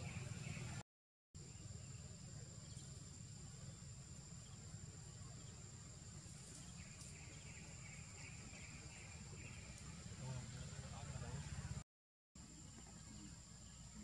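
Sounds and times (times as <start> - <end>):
faint chirps: 1.4 - 11.8, 12.4 - 14.0.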